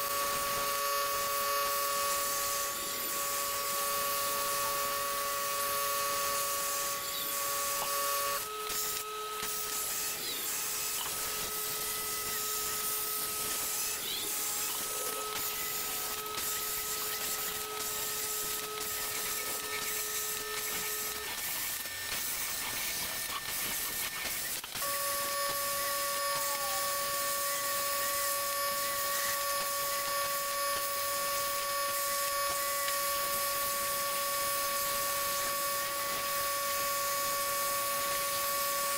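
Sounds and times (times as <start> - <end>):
high whining from moving table: 0.0 - 38.9
plasma cutter arc hissing: 0.0 - 38.9.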